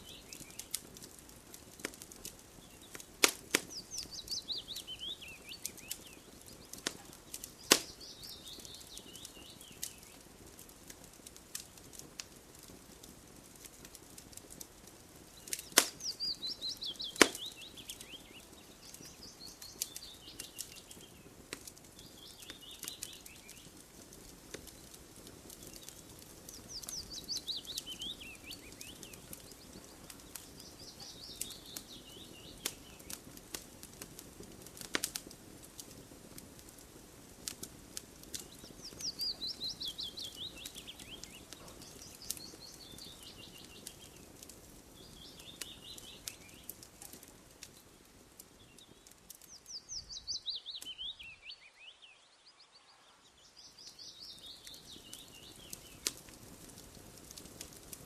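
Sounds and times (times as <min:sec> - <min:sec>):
campfire crackling and popping: 0:00.0 - 0:51.6, 0:53.3 - 0:58.0.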